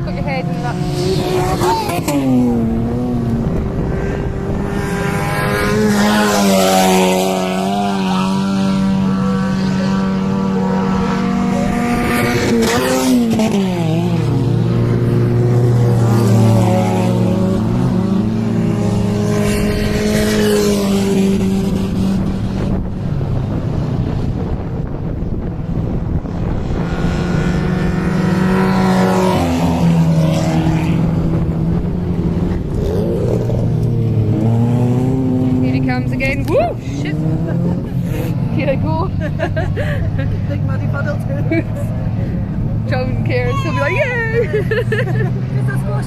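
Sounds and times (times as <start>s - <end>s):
racing car engines: 0.0s - 46.0s.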